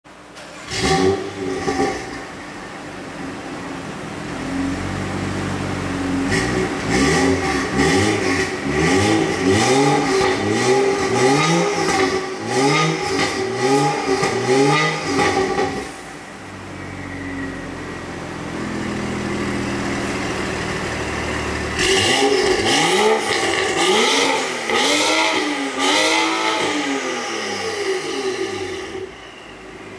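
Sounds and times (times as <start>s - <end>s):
car engine idling: 0.1s - 29.9s
car engine revving in blips: 0.5s - 2.4s, 4.3s - 29.9s.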